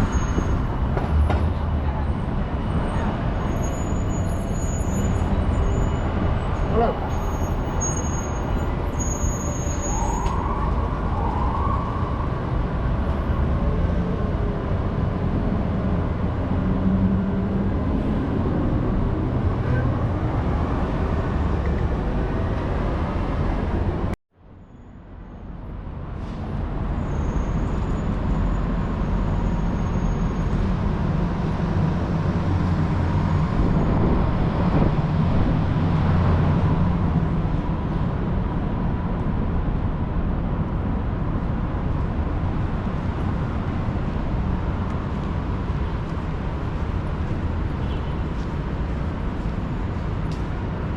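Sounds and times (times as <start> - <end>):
city traffic rumble: 0.0 - 50.9.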